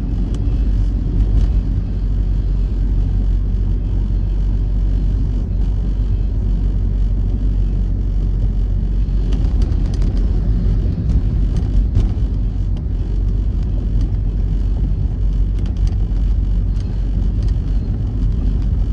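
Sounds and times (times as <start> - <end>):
motor vehicle rumble: 0.0 - 18.9.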